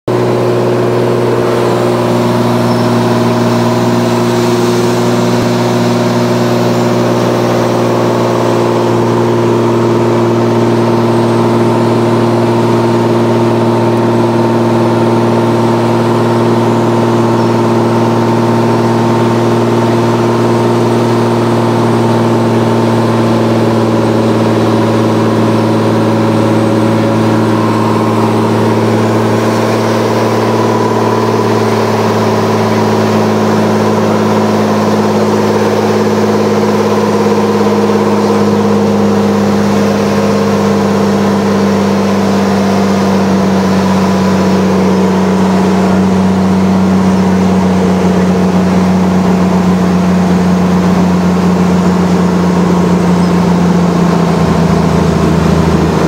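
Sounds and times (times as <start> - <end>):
light aircraft engine drone: 0.1 - 56.0.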